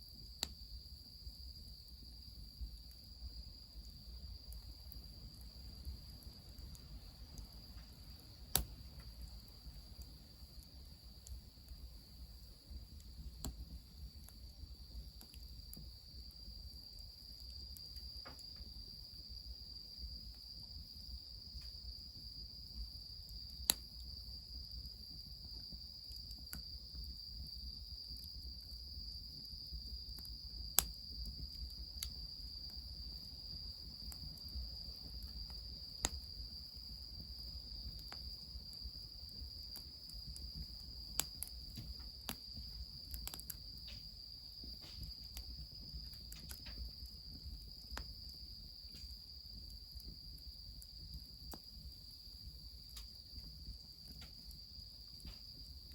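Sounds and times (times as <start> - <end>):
high insect trill: 0.0 - 55.9
wood fire crackling and popping: 1.6 - 19.2, 19.8 - 55.9.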